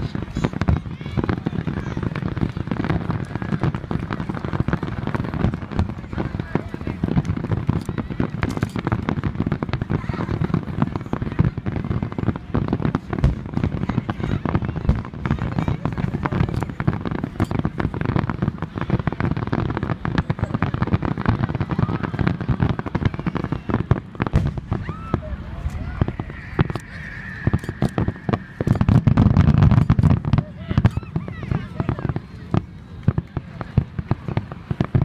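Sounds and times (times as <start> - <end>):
deep fireworks booms: 0.0 - 35.0
fireworks bangs and crackles: 0.0 - 35.0.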